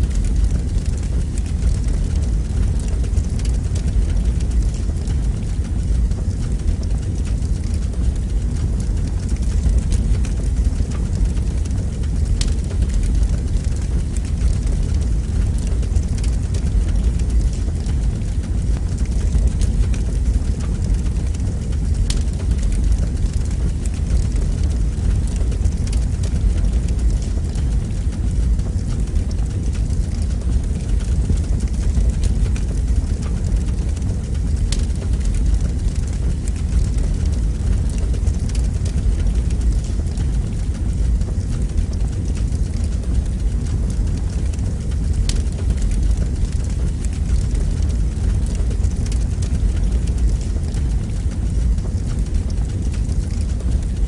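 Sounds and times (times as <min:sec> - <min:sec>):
fire crackles: 0:00.0 - 0:54.0
fire rumbling in fireplace: 0:00.0 - 0:54.0.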